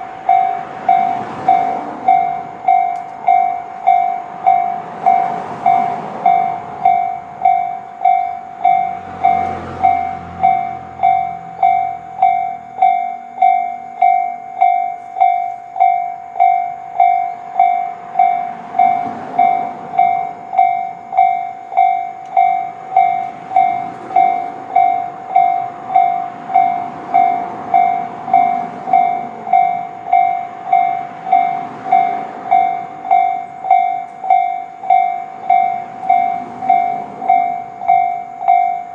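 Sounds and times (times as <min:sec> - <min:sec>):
level crossing warning bells: 0:00.0 - 0:38.9.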